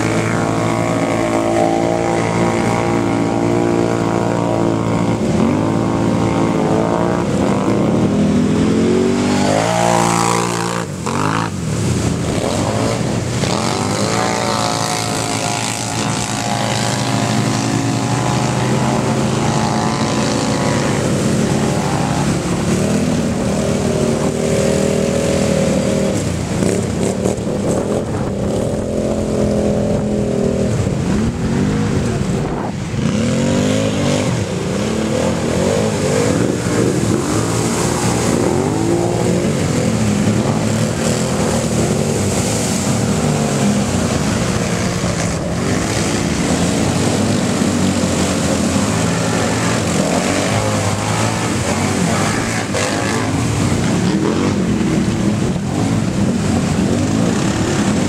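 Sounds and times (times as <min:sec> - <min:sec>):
atv engines revving: 0:00.0 - 0:58.0
water splashing: 0:00.0 - 0:58.0.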